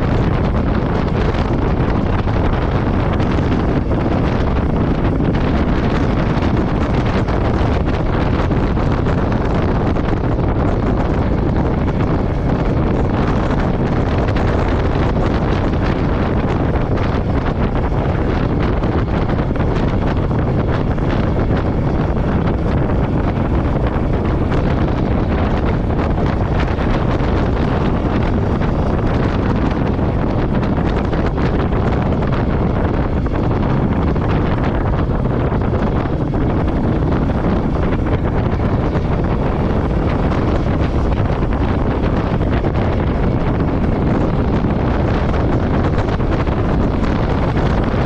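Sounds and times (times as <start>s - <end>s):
motorcycle engine running: 0.0s - 48.0s
wind buffeting microphone: 0.0s - 48.0s.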